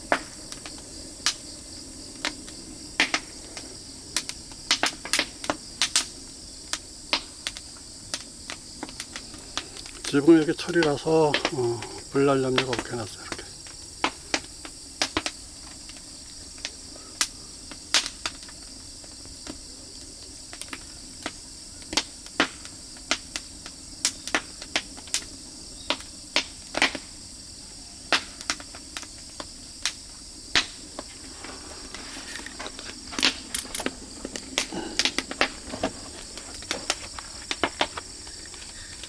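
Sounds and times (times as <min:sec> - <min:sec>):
fire crackling and popping: 0:00.0 - 0:39.0
insects chirring: 0:00.0 - 0:39.0.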